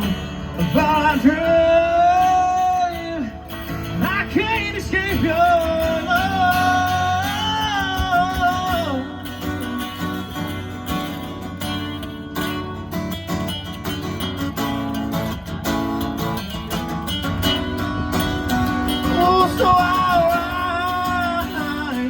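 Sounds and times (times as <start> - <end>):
country band playing: 0.0 - 22.0
guitar: 0.0 - 22.0.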